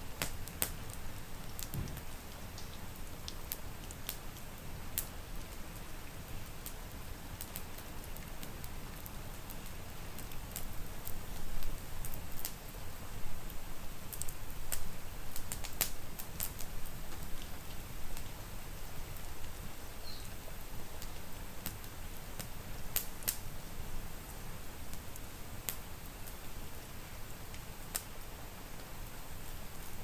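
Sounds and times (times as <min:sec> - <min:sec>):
rain hissing: 0:00.0 - 0:30.0
wood fire crackling: 0:00.0 - 0:30.0.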